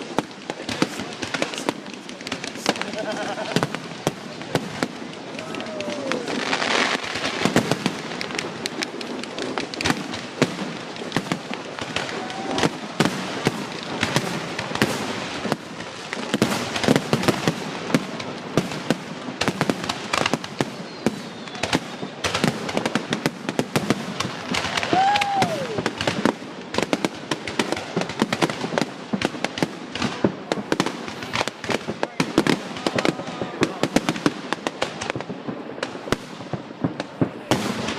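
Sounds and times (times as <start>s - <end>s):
fireworks banging and crackling: 0.0s - 37.9s.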